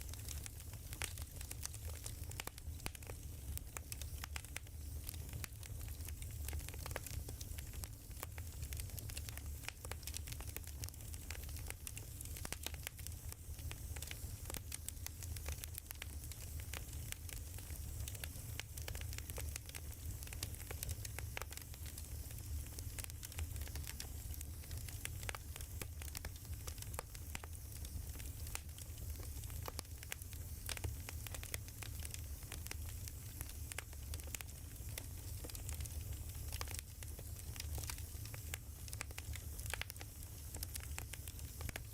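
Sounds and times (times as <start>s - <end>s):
fire pops and snaps: 0.0s - 41.9s
low rumble of flames: 0.0s - 41.9s.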